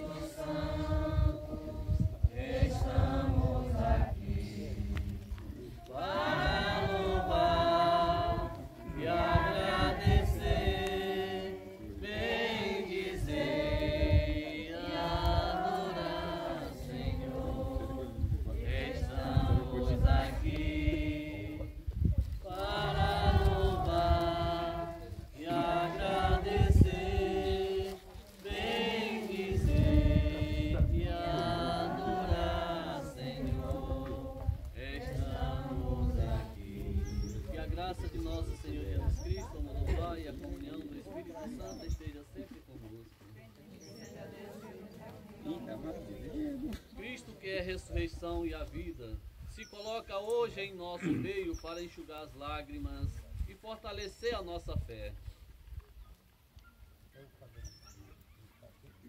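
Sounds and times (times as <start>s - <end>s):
people singing a slow hymn: 0.0s - 43.0s, 43.6s - 55.1s.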